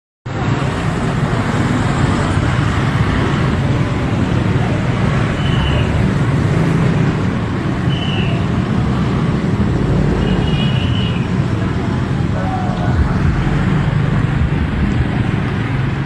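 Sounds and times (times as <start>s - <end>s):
street traffic rumble: 0.3s - 16.0s.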